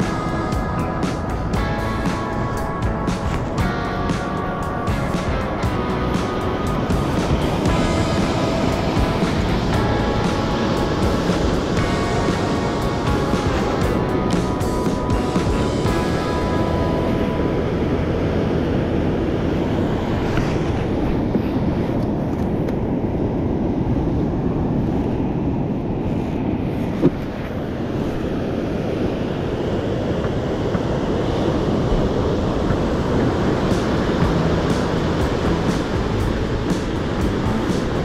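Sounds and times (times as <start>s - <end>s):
sea surf washing: 0.0s - 38.0s
wind buffeting microphone: 0.0s - 38.0s.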